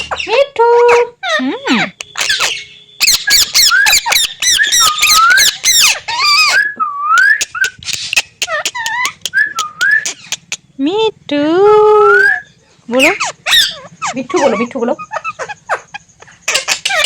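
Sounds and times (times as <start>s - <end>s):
parrot shrill chirps: 0.0s - 10.8s, 11.8s - 17.0s
parrot whistled calls: 0.9s - 10.7s, 11.9s - 17.0s.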